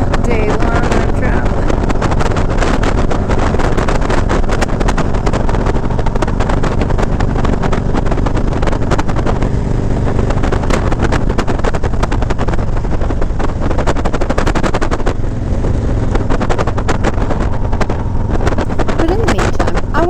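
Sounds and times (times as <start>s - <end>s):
motorcycle engine drone: 0.0s - 20.0s
wind buffeting microphone: 0.0s - 20.0s.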